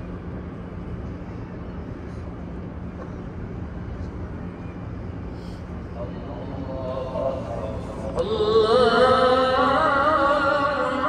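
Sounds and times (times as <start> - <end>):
crowd ambient rumble: 0.0 - 11.0
faint steady hum: 0.0 - 11.0.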